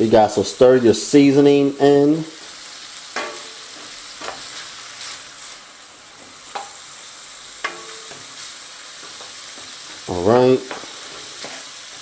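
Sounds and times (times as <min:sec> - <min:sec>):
sausage sizzling in skillet: 0:00.0 - 0:12.0.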